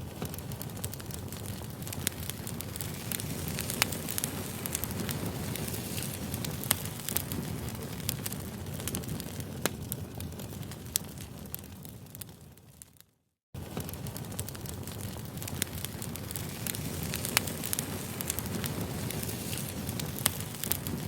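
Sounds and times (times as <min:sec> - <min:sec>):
campfire crackling: 0:00.0 - 0:13.0, 0:13.6 - 0:21.0.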